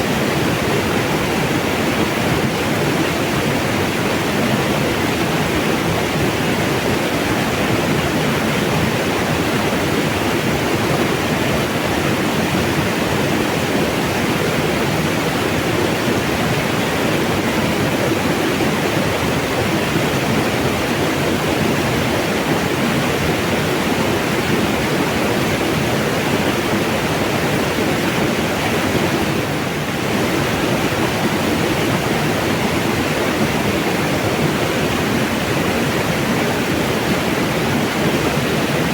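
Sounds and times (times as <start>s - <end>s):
mountain water rushing: 0.0s - 38.9s.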